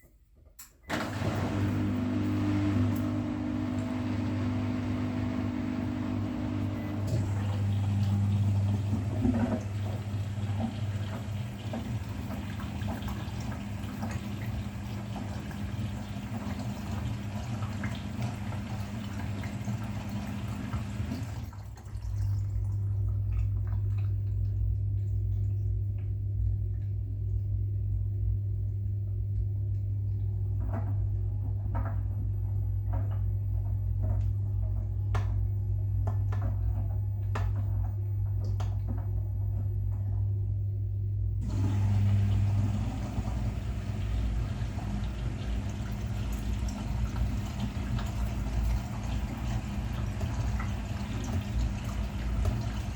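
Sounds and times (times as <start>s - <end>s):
washing machine hum: 0.0s - 52.9s
washing machine taking in water: 0.8s - 40.6s, 41.4s - 52.9s.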